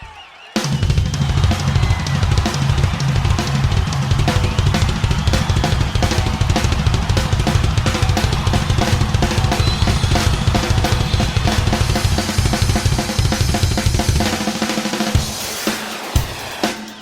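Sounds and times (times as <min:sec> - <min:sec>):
drum kit steady beat: 0:00.0 - 0:17.0
rock band playing: 0:00.6 - 0:17.0
heavy bass: 0:00.8 - 0:14.6.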